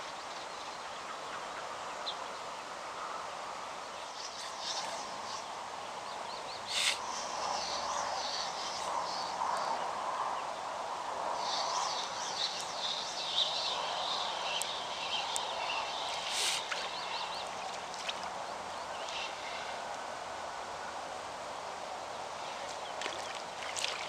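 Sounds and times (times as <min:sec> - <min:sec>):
songbirds singing: 0:00.0 - 0:24.0
steady background hiss: 0:00.0 - 0:24.0.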